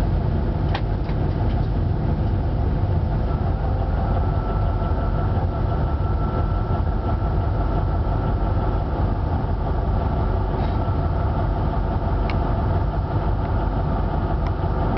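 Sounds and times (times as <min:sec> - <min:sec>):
locomotive engine running: 0:00.0 - 0:14.9.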